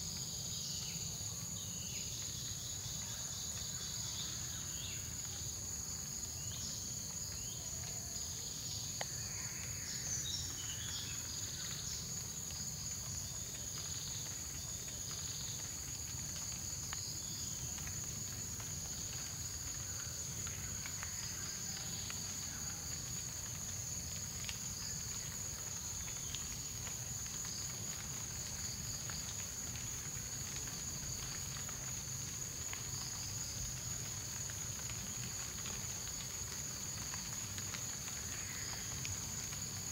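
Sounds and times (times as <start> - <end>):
insects droning chorus: 0.0 - 39.9.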